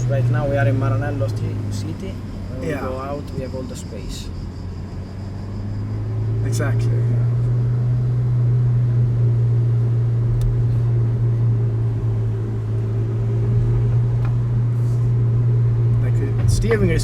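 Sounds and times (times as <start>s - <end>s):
car engine droning at low speed: 0.0s - 17.0s.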